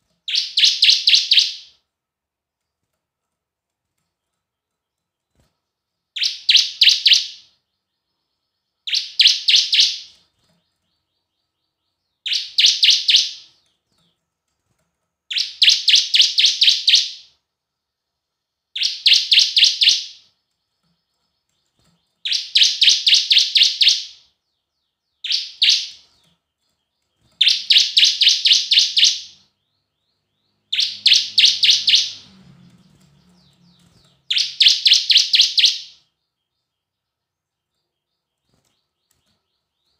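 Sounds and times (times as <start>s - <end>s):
bird singing high sharp phrases: 0.2s - 1.8s, 5.4s - 14.1s, 15.3s - 17.4s, 18.7s - 39.9s.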